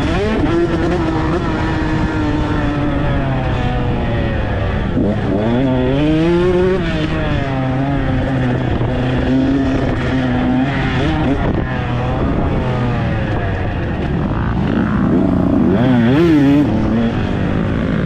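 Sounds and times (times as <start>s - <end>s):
dirt bike engine revving: 0.0s - 18.0s
wind rushing over microphone: 0.0s - 18.0s.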